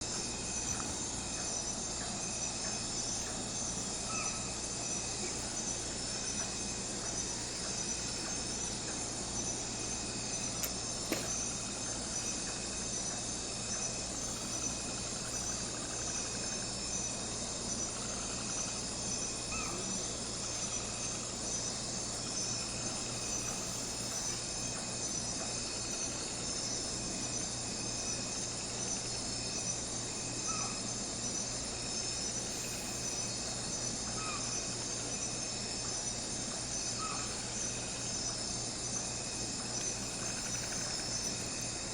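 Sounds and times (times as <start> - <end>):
crickets chirping: 0.0 - 41.9
faint short insect calls: 0.0 - 41.9
steady low hum: 0.0 - 41.9.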